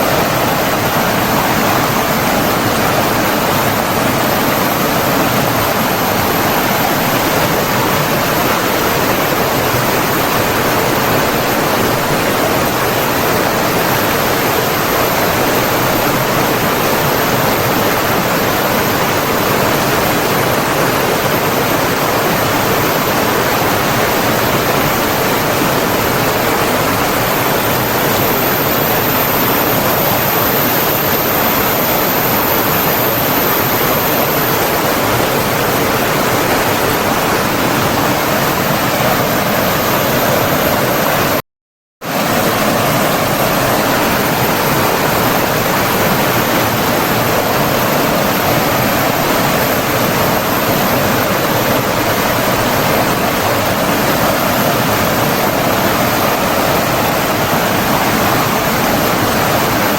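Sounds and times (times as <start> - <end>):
rush of flowing water: 0.0 - 41.4, 42.0 - 59.9.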